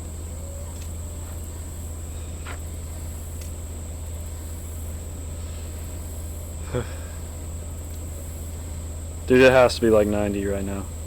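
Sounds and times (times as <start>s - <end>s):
constant low hum: 0.0s - 11.0s
insects droning: 0.0s - 11.0s.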